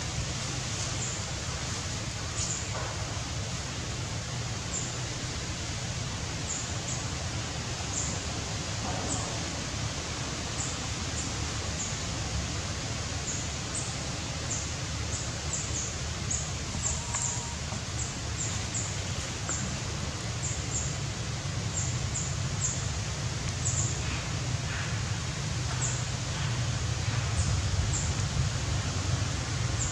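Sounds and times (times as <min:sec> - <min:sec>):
background hiss and low hum: 0:00.0 - 0:29.9.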